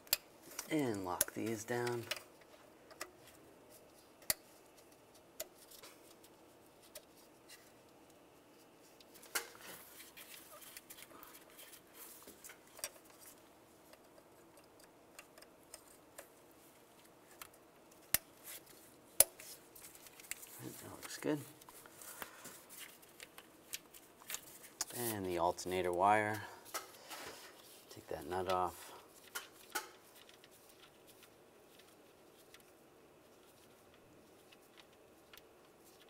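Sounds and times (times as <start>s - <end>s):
light handling sounds: 0.0s - 36.0s.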